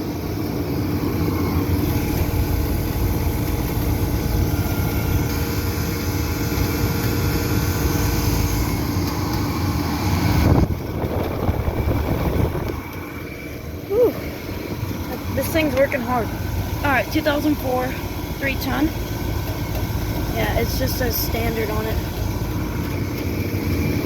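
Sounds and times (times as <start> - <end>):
compressor hum: 0.0 - 24.0
condenser fan blowing: 0.0 - 24.0.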